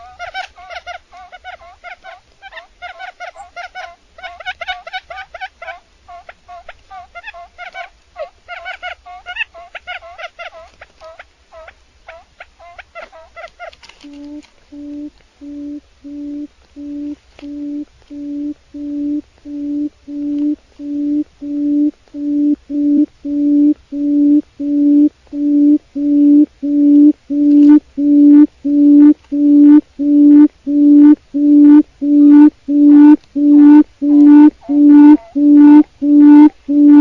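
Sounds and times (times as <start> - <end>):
quail hooting: 0.0 - 37.0.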